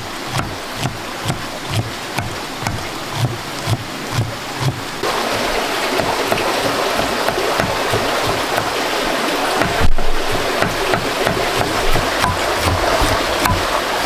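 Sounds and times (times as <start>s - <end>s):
soft water sloshes: 0.0s - 14.0s
water running and splashing: 0.0s - 14.0s.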